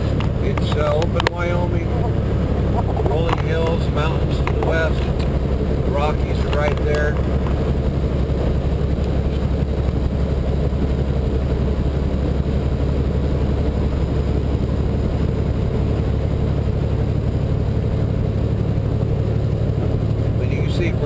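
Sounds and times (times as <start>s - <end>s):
road and wind noise: 0.0s - 21.0s
truck diesel engine droning: 0.0s - 21.0s.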